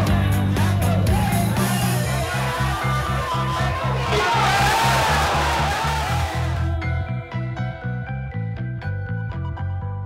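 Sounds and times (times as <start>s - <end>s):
music with pulsing bass: 0.0s - 10.0s.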